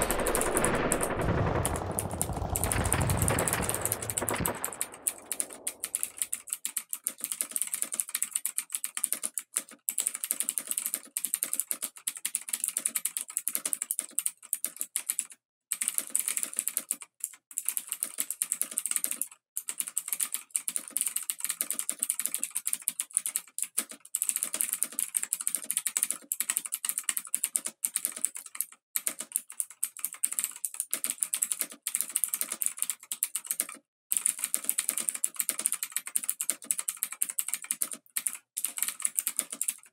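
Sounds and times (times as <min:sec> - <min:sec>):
rapid crackling clicks: 0:00.0 - 0:39.9.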